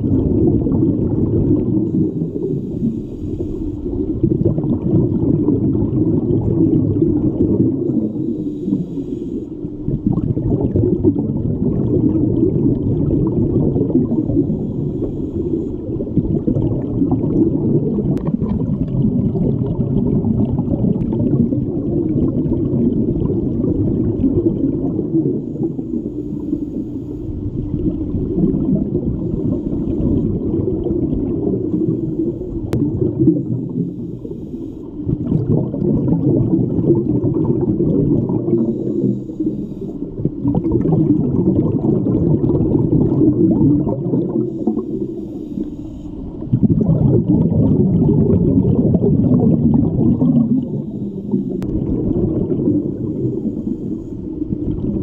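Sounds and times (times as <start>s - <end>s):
muffled underwater rumble and gurgle: 0.0s - 55.0s.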